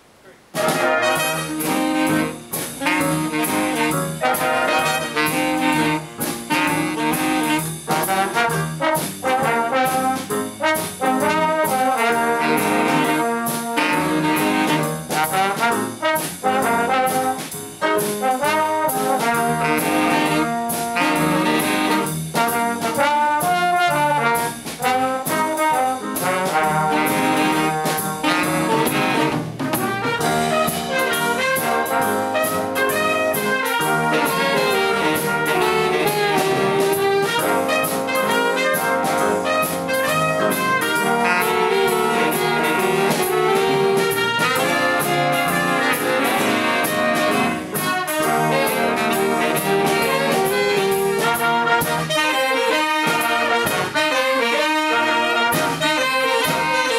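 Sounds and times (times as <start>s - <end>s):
big band playing swing: 0.0s - 56.9s
drum kit beat: 0.4s - 56.9s.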